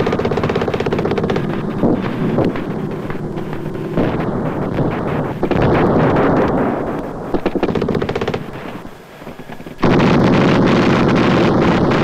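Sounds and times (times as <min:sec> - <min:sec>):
automatic rifle fire bursts: 0:00.0 - 0:08.9, 0:09.8 - 0:12.0
loud rumble with rapid crackle: 0:00.0 - 0:12.0.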